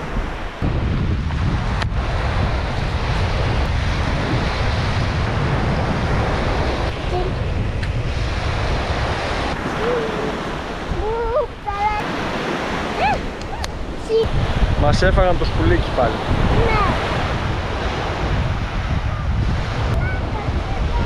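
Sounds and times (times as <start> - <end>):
sea waves breaking on a beach: 0.0 - 21.0
wind buffeting microphone: 0.0 - 21.0.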